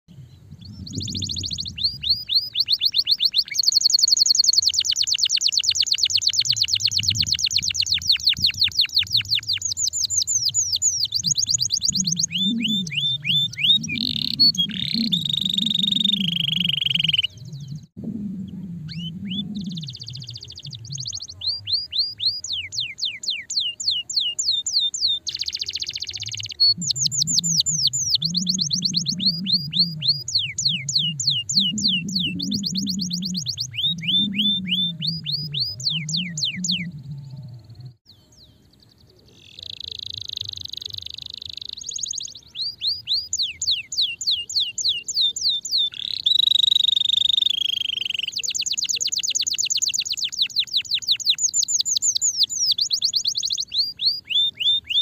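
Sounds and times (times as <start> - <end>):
canary singing rapid trills: 0.5 - 38.0, 39.4 - 55.0.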